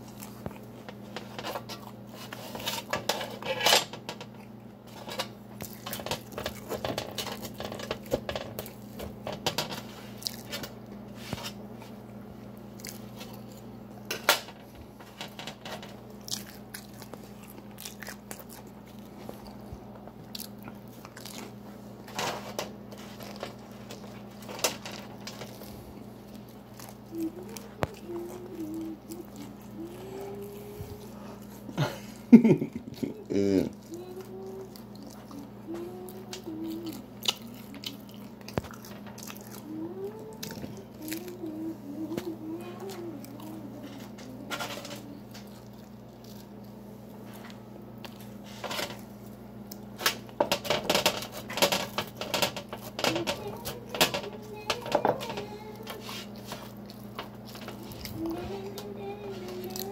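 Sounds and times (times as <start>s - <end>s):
crunching and chewing pizza: 0.0s - 59.9s
steady low hum: 0.0s - 59.9s.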